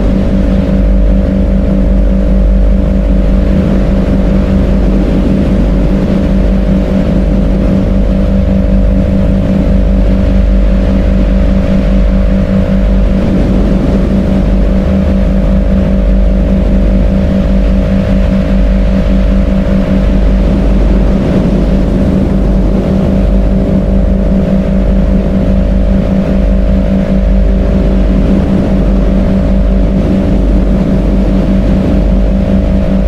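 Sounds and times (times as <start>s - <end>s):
loud droning rumble with hiss: 0.0s - 33.0s.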